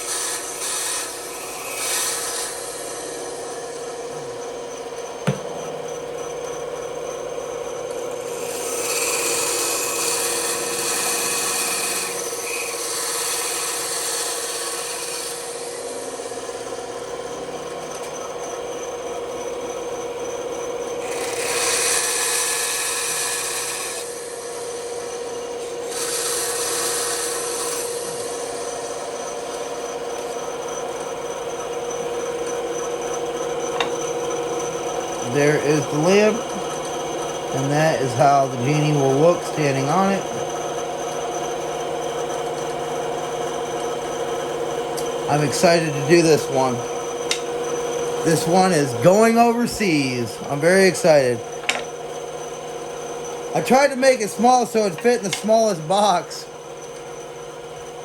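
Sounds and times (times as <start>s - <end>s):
bandsaw cutting wood: 0.0s - 4.4s, 8.1s - 18.6s, 21.0s - 56.9s.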